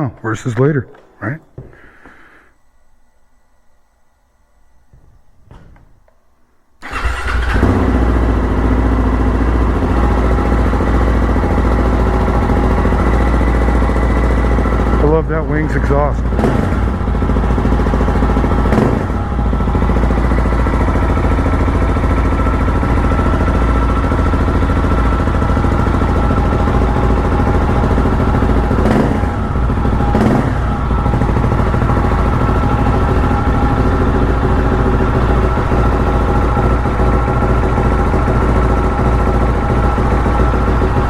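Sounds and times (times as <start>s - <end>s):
motorcycle engine idling and revving: 6.8s - 41.0s.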